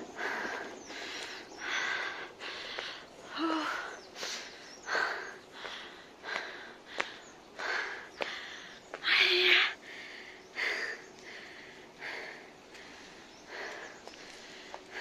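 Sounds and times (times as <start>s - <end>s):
person panting heavily: 0.0s - 8.8s, 9.5s - 15.0s.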